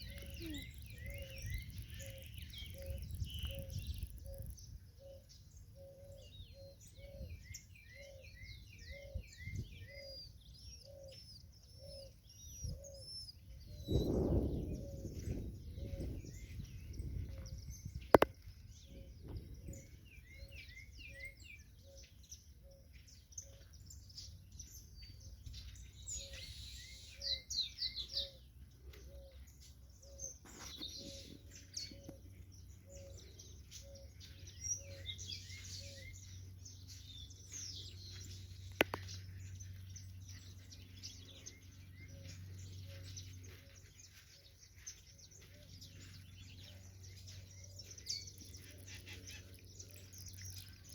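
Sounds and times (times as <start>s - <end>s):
birds singing and chirping: 0.0s - 50.9s.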